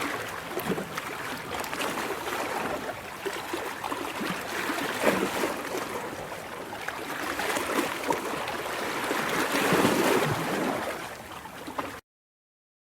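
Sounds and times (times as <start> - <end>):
ocean waves washing in: 0.0 - 12.0.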